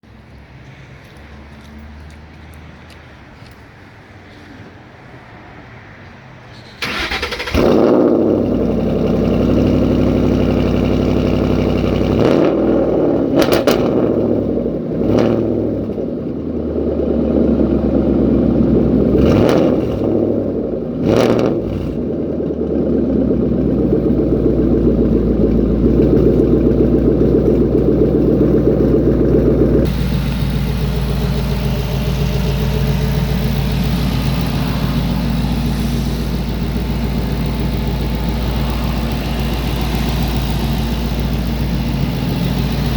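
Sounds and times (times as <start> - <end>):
car engine starting and revving: 6.6 - 42.9.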